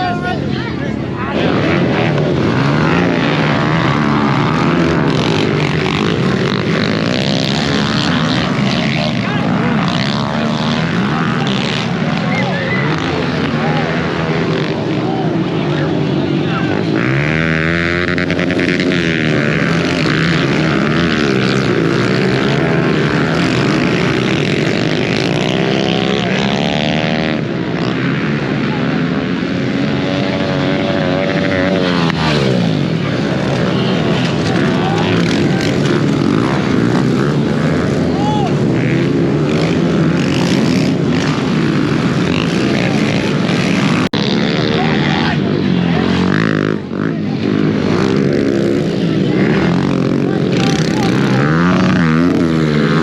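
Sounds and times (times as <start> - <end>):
motorbike engines revving: 0.0 - 53.0.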